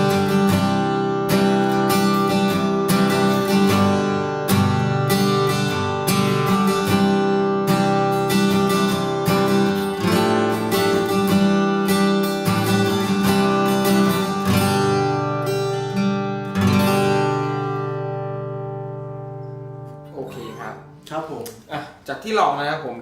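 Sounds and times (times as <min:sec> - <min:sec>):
acoustic guitar strumming: 0:00.0 - 0:21.4.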